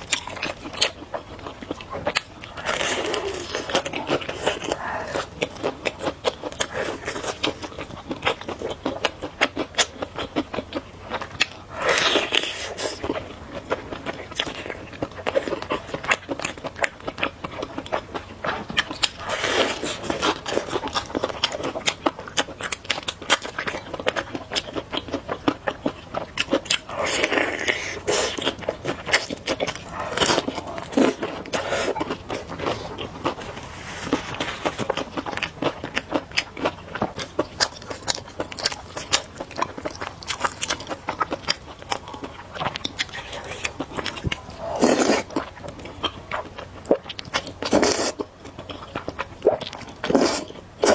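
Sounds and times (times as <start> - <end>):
close chewing noodles: 0.0 - 50.9.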